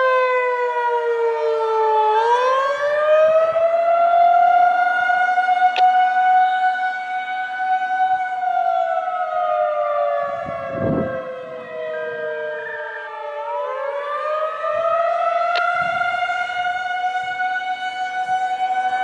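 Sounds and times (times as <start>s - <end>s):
wavering warning siren: 0.0s - 19.0s.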